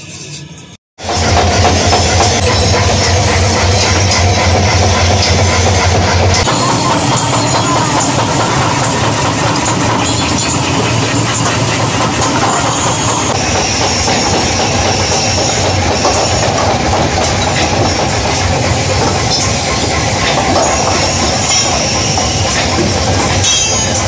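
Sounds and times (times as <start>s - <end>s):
machinery running: 1.0s - 24.0s.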